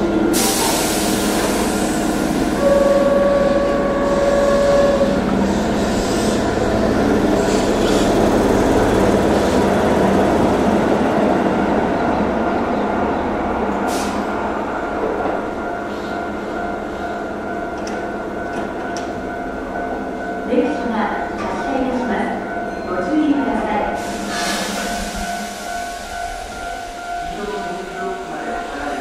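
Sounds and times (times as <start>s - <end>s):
train wheels rushing on rails: 0.0s - 29.0s.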